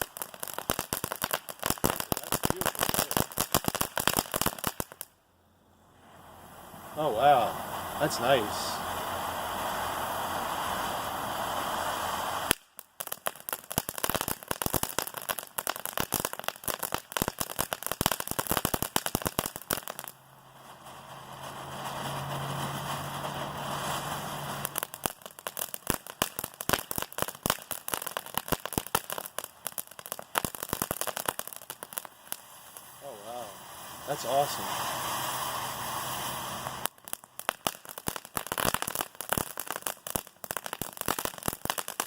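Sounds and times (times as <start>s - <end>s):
firework crackling: 0.0s - 5.2s, 5.8s - 42.0s
firework fountain hissing: 0.0s - 42.0s.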